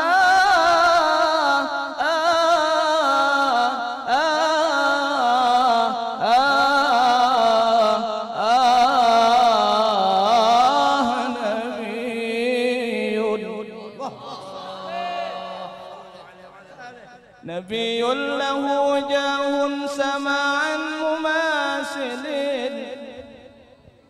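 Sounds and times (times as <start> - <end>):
devotional song singing: 0.0 - 24.0.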